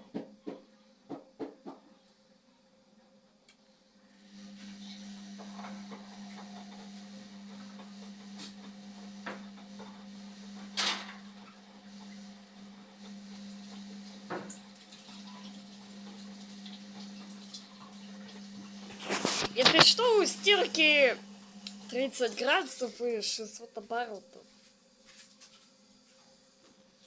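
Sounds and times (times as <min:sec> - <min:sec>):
washing machine humming: 0:03.8 - 0:27.0.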